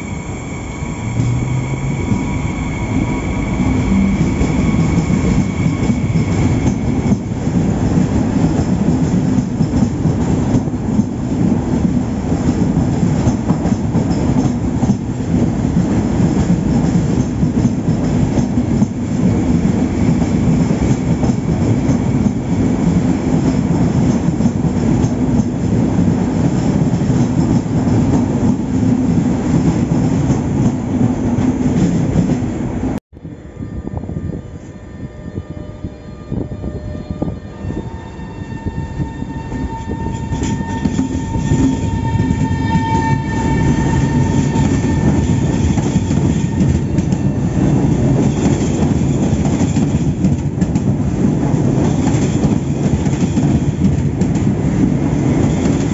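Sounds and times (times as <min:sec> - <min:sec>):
high train whine: 0:00.0 - 0:55.9
train cars rumbling past: 0:00.0 - 0:55.9.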